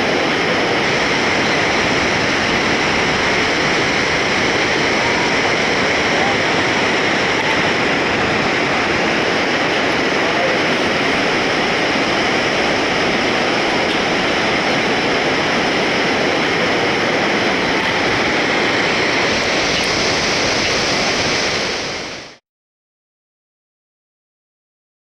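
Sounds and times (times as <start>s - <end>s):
river rapids rushing: 0.0s - 22.4s.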